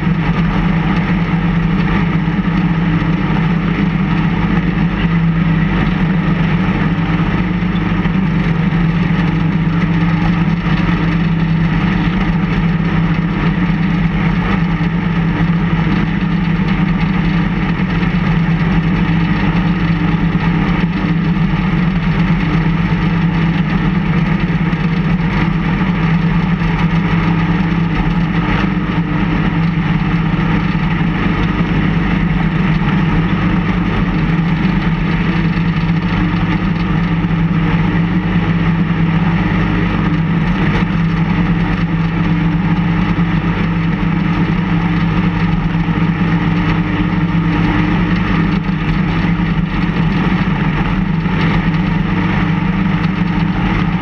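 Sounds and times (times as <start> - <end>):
snowplow engine droning: 0.0 - 54.0.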